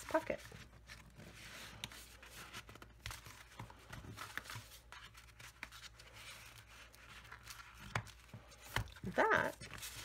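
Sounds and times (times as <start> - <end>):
card stock rustling and scraping: 0.0 - 10.0.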